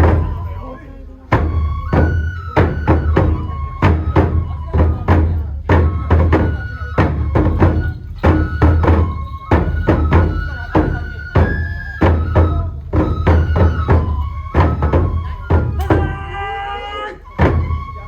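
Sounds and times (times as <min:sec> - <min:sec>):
flute holding high notes: 0:00.0 - 0:18.0
taiko drum beating: 0:00.0 - 0:18.0.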